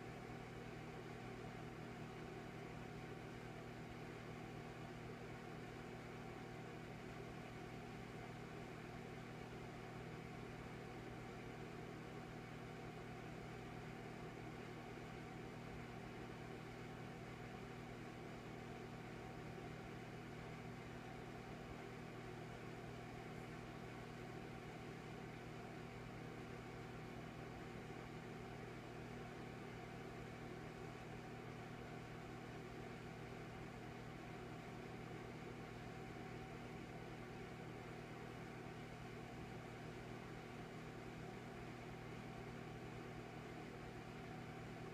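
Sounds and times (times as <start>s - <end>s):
electric fireplace humming: 0.0s - 44.9s.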